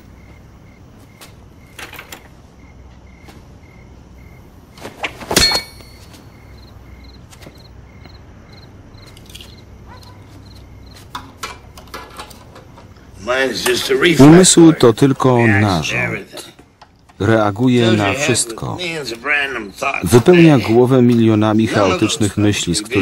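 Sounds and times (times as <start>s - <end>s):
cricket chirping: 0.0s - 23.0s.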